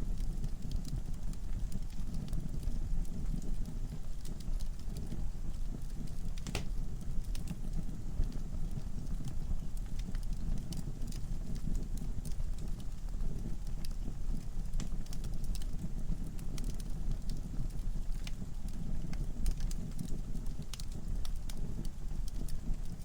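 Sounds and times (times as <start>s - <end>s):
burning logs crackling and popping: 0.0s - 23.0s
fire flames rumbling: 0.0s - 23.0s.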